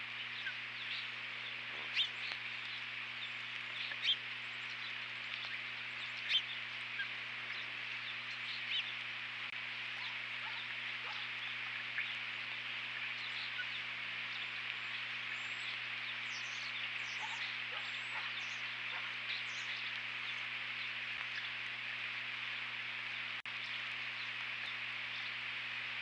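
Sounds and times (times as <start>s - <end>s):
low electrical hum: 0.0s - 26.0s
microphone hiss: 0.0s - 26.0s.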